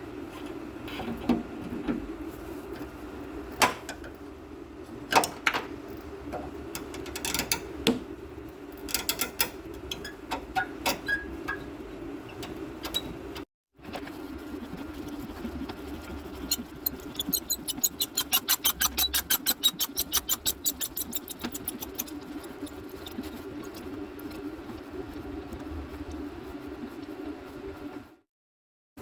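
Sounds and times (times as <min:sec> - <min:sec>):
induction heater humming: 0:00.0 - 0:27.0.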